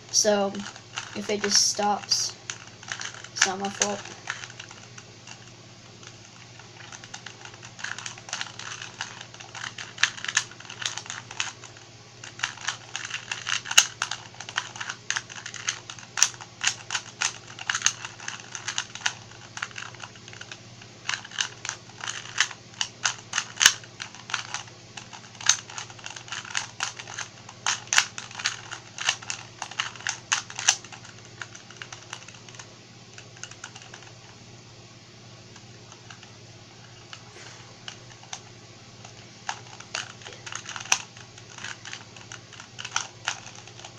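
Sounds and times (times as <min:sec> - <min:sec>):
puzzle cube plastic clicks: 0:00.1 - 0:34.4, 0:35.5 - 0:37.2, 0:37.8 - 0:43.9.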